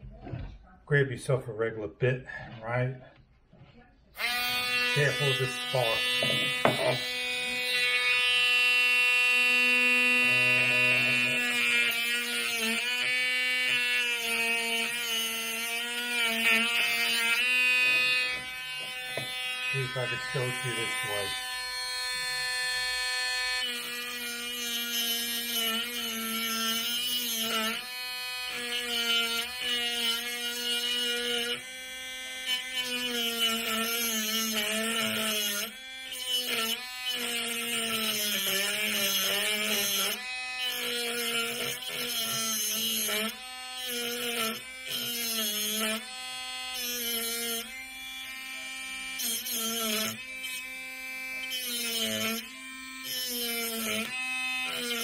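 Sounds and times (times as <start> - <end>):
rotary tool grinding metal: 4.1 - 55.0.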